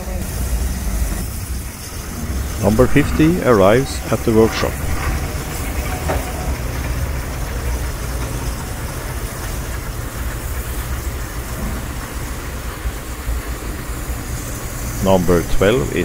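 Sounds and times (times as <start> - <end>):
railcar engine rumble: 0.0 - 16.0.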